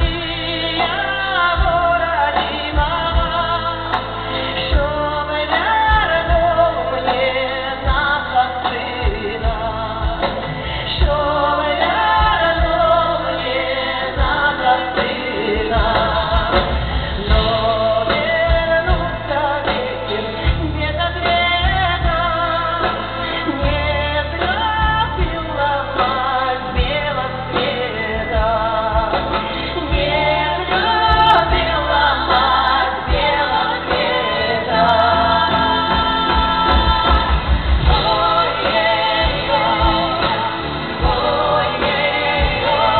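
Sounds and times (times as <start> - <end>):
backing band with bass and drums: 0.0 - 42.9
woman singing with vibrato: 0.0 - 42.9.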